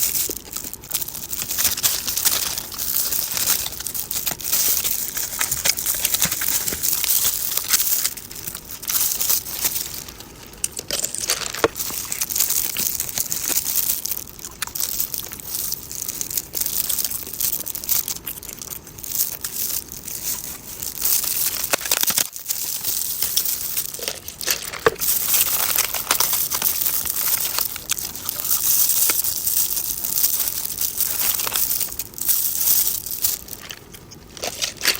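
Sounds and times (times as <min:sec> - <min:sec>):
eating a hamburger crunching: 0:00.0 - 0:34.9.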